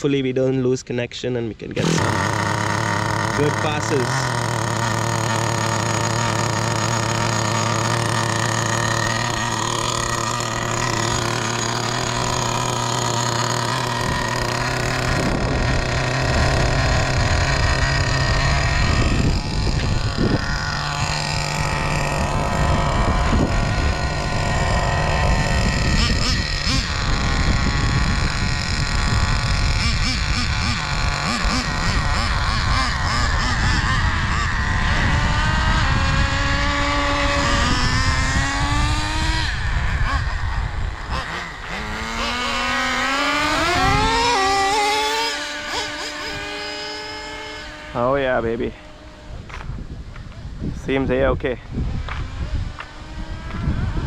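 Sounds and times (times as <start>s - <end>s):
rc truck engine: 1.8s - 54.0s.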